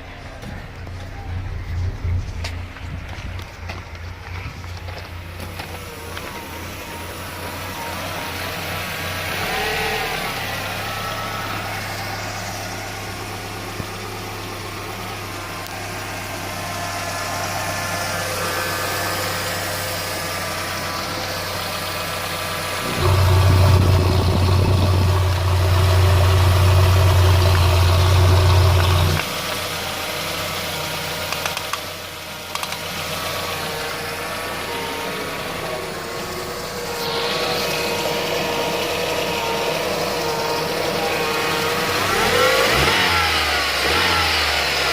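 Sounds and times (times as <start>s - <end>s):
car engine idling rough: 0.0s - 44.9s.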